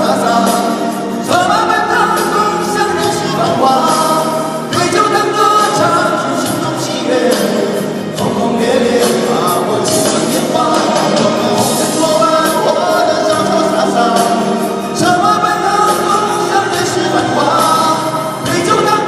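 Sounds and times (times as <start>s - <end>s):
voices singing a slow song: 0.0s - 19.0s.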